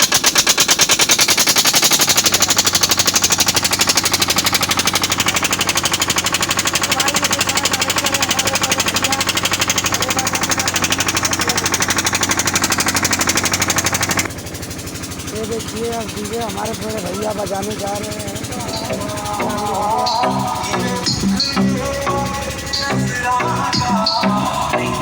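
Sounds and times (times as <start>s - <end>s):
generator engine running: 0.0s - 25.0s.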